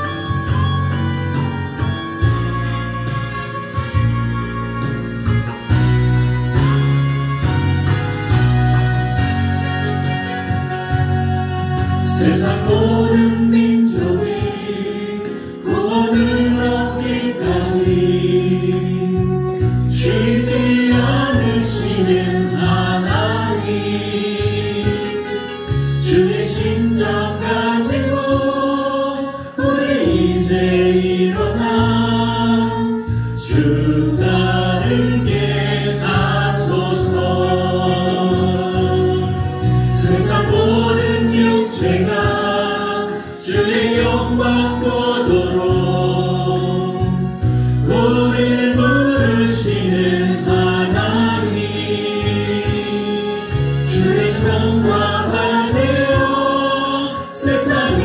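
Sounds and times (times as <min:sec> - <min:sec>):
instrumental accompaniment: 0:00.0 - 0:58.0
group singing a gospel song: 0:05.7 - 0:58.0.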